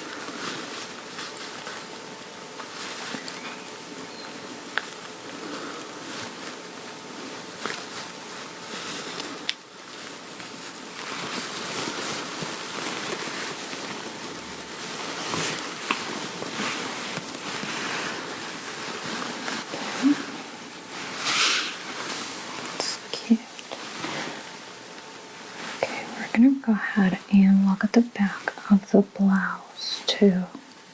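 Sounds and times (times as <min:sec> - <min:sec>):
clothing fabric rustling: 0:00.0 - 0:30.9.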